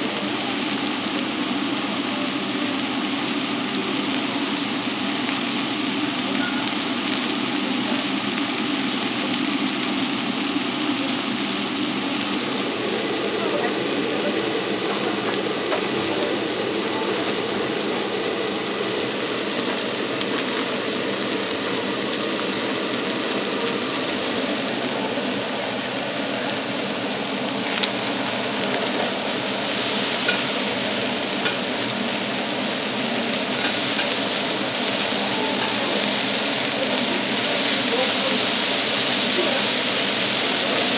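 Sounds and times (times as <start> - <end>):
steak sizzling: 0.0 - 40.9.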